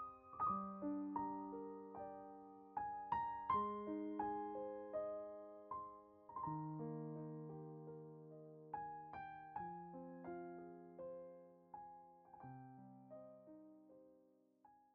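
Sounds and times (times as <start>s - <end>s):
slow piano music: 0.0s - 14.9s.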